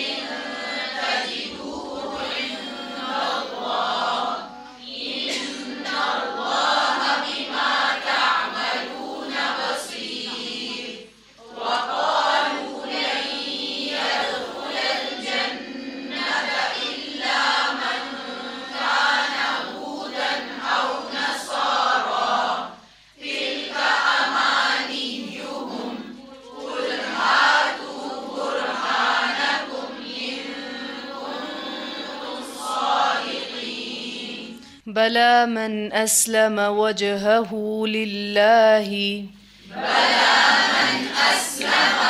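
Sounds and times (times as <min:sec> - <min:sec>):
group chanting in unison: 0:00.0 - 0:34.8, 0:39.6 - 0:42.0.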